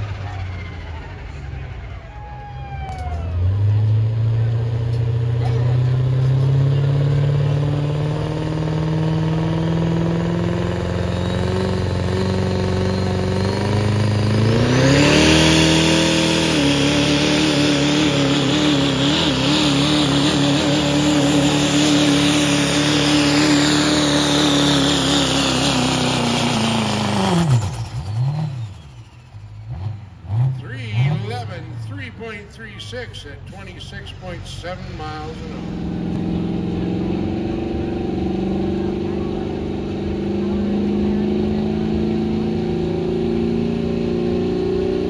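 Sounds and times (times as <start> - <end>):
diesel pickup engine at full throttle: 0.0 - 45.0.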